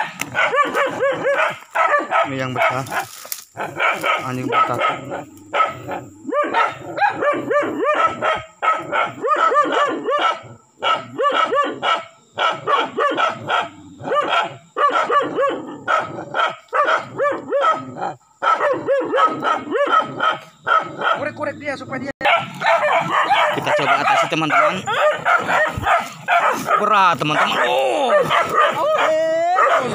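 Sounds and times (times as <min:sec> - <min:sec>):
dogs barking: 0:00.0 - 0:29.9.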